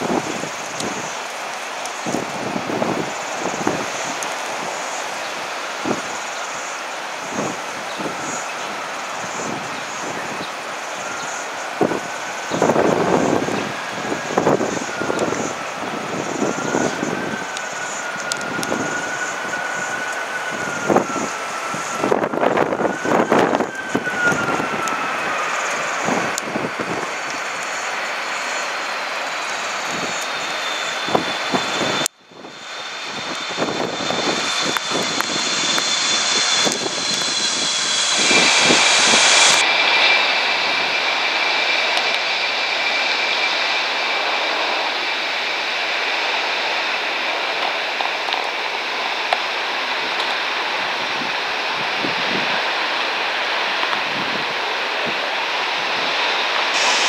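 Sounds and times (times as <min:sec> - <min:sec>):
high engine whine gliding down: 0:00.0 - 0:57.0
jet engines roaring: 0:00.0 - 0:57.0.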